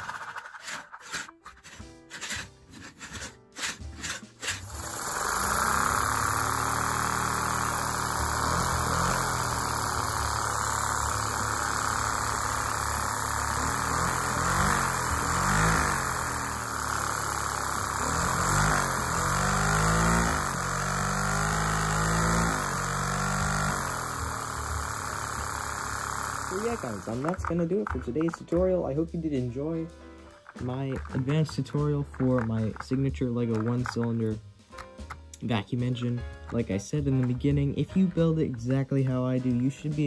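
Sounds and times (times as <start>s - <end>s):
engine hum: 4.3s - 40.0s.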